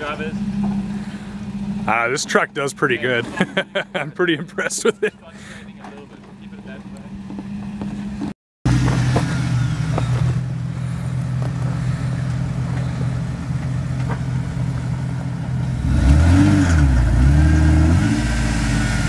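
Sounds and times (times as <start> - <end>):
car engine running and revving: 0.0 - 5.0, 5.6 - 19.0.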